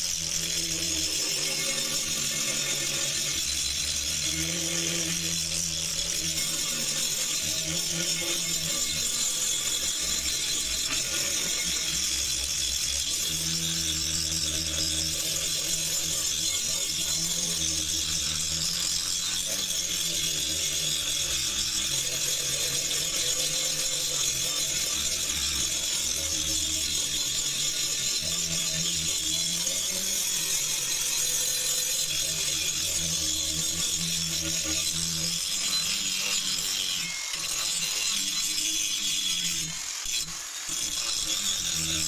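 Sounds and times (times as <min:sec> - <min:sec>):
angle grinder grinding metal: 0:00.0 - 0:42.0.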